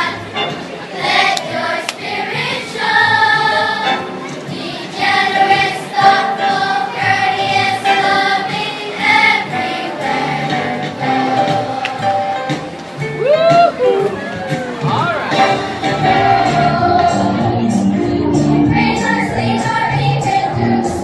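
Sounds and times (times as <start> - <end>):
children's choir singing: 0.0 - 12.7, 15.4 - 21.0.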